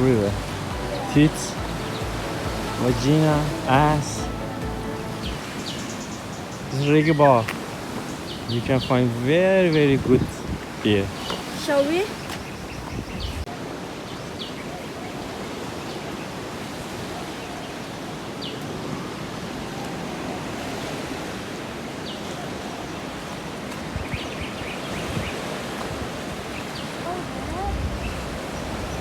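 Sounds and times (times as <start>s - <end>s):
steady rushing outdoor noise: 0.0s - 29.0s.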